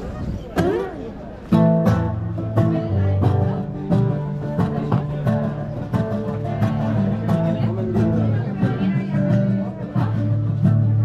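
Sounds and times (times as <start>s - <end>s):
acoustic guitar picking: 0.5s - 11.0s.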